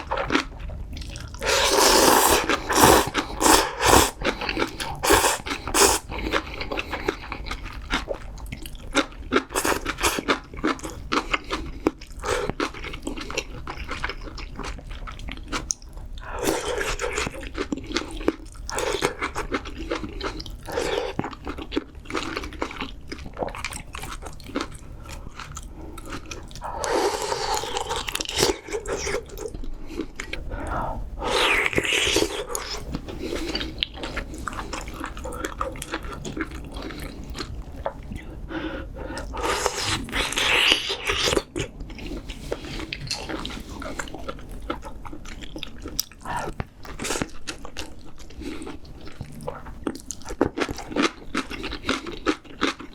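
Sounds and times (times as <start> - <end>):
wet chewing and crunching: 0.0 - 52.9.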